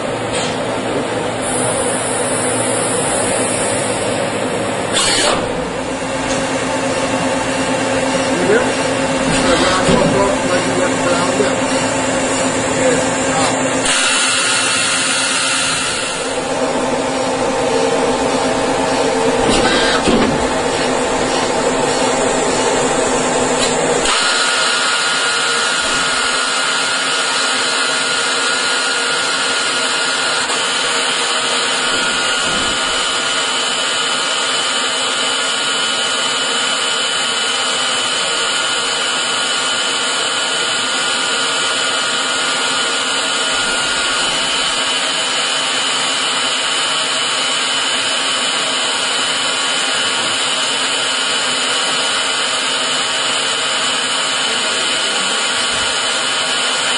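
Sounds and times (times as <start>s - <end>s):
high-pitched spindle whine: 1.4s - 36.4s, 37.2s - 56.9s
lathe drilling brass: 1.4s - 56.9s.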